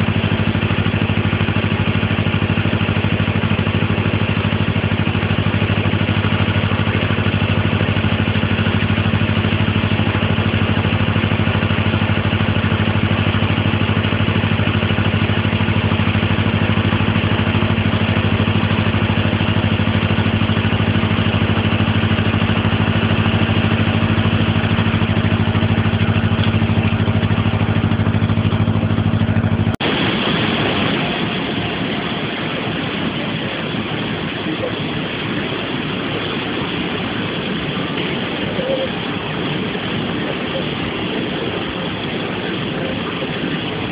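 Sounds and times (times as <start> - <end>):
boat engine running: 0.0 - 43.9
white water rushing: 0.0 - 43.9.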